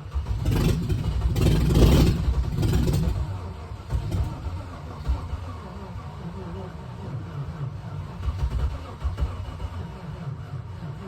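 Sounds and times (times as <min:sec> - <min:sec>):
car engine running rough: 0:00.0 - 0:11.0.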